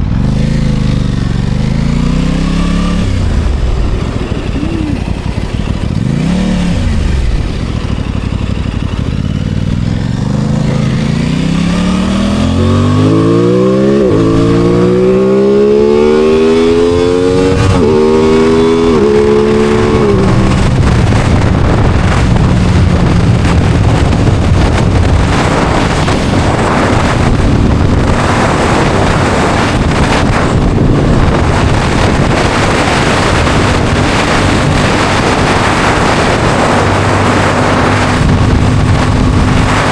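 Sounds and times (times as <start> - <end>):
motorcycle engine revving and accelerating: 0.0 - 39.9
wind noise: 0.0 - 39.9.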